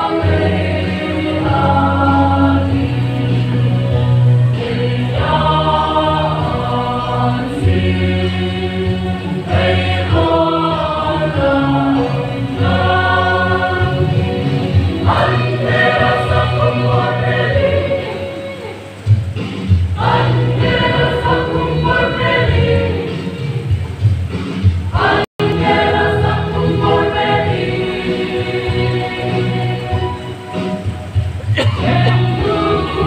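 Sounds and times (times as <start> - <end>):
mixed choir singing in harmony: 0.0 - 23.9, 24.9 - 33.0.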